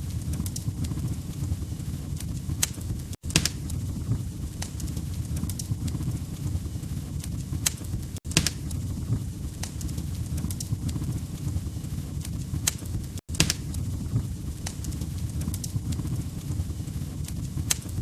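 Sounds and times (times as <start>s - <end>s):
log fire crackling: 0.0s - 18.0s.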